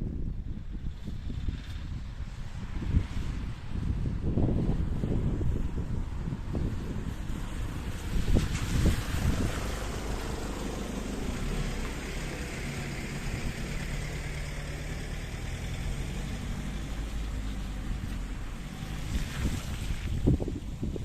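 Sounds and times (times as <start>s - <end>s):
engine running low: 0.0s - 21.0s
wind buffeting microphone: 0.0s - 21.0s.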